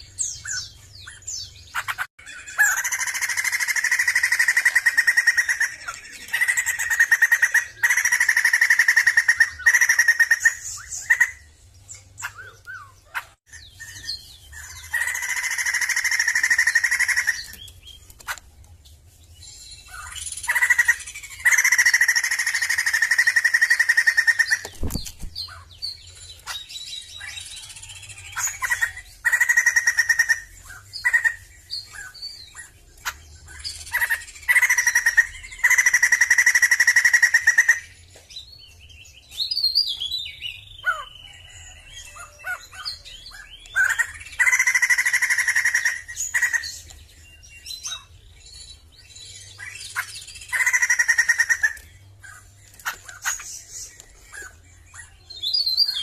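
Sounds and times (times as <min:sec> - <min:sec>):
quieter bird calls: 0:00.0 - 0:56.0
bird rapid pulsed chattering: 0:00.2 - 0:11.5, 0:12.2 - 0:18.5, 0:19.8 - 0:25.8, 0:26.4 - 0:38.0, 0:40.8 - 0:46.8, 0:49.5 - 0:56.0.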